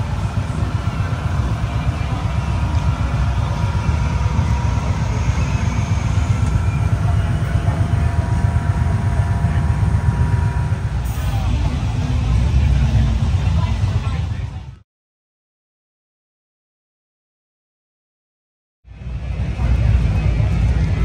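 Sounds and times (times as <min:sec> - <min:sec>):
motorcycle engine running: 0:00.0 - 0:14.7, 0:18.9 - 0:21.0.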